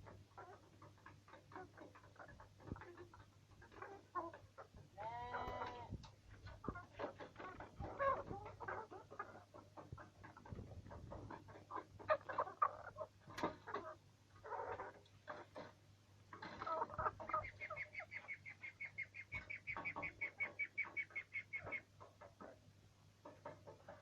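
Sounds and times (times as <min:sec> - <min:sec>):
beaks pecking at feed: 0:00.0 - 0:22.6
chickens clucking: 0:00.0 - 0:24.0.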